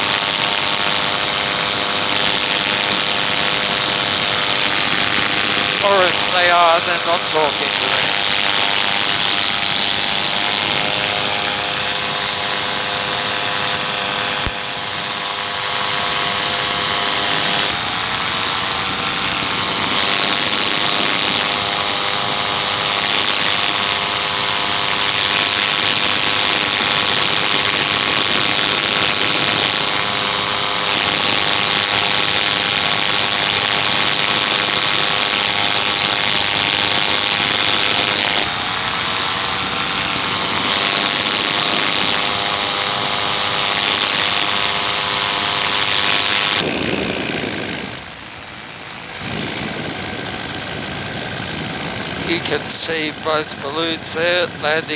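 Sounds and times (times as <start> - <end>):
paramotor engine and propeller: 0.0 - 54.9.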